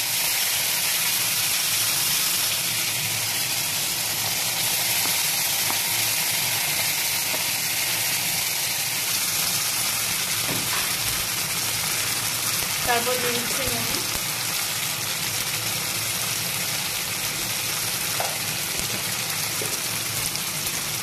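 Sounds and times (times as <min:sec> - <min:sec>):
tomatoes sizzling in hot oil: 0:00.0 - 0:21.0.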